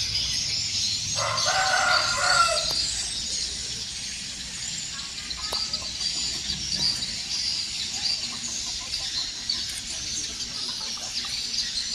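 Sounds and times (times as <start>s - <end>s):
high chirping chorus: 0.0s - 11.9s
chickens clucking: 0.8s - 11.9s.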